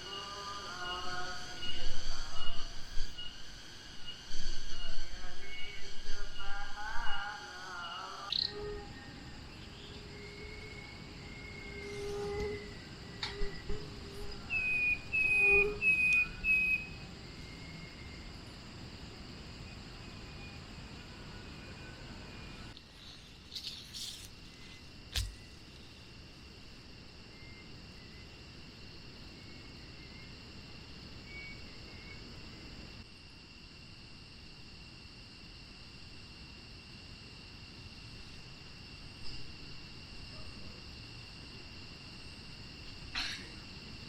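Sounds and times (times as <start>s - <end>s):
crickets chirring: 0.0s - 44.0s.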